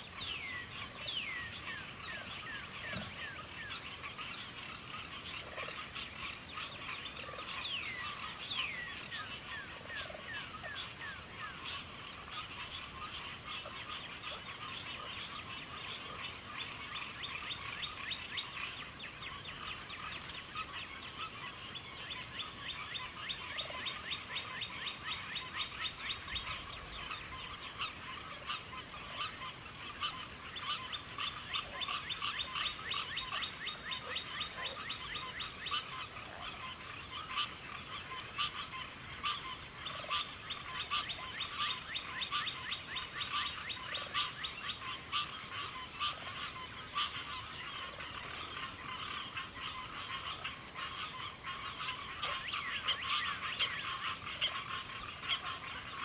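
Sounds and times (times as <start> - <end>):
crickets trilling: 0.0 - 56.0
falling insect call: 0.0 - 56.0.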